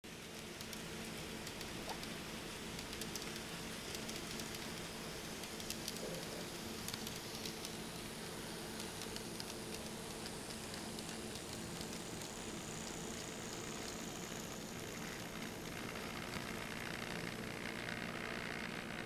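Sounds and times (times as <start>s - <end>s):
model train motor whir: 2.7s - 19.0s.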